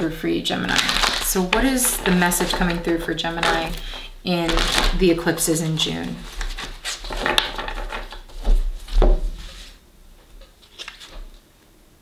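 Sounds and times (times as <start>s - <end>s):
cards being shuffled: 0.6s - 9.7s, 10.6s - 11.4s.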